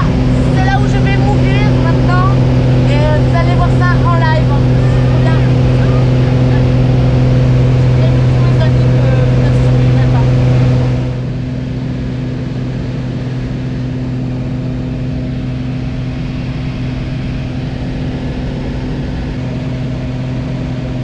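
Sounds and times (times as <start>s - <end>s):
plane engine and propeller droning: 0.0s - 21.0s.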